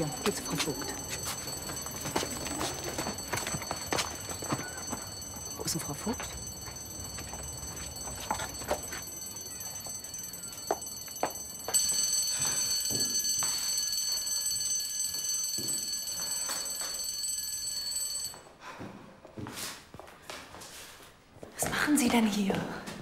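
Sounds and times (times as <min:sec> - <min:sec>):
fire alarm ringing: 0:00.0 - 0:18.5.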